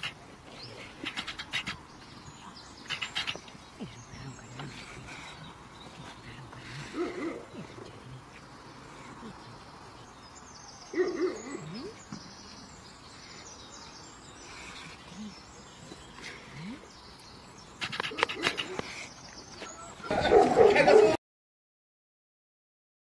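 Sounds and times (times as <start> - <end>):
faint bird calls: 0.0 - 9.7, 10.9 - 20.6.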